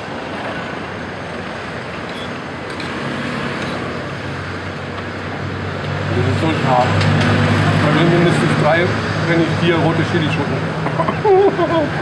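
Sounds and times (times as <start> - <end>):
vehicles driving past: 0.0 - 12.0.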